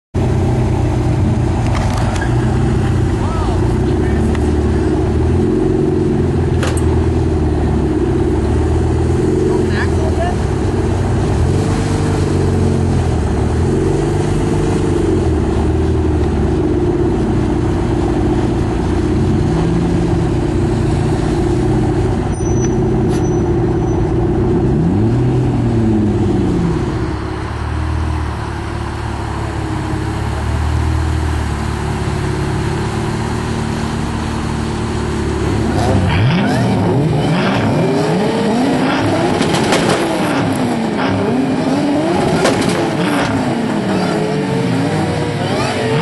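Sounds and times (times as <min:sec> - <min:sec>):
car engines revving: 0:00.2 - 0:46.0.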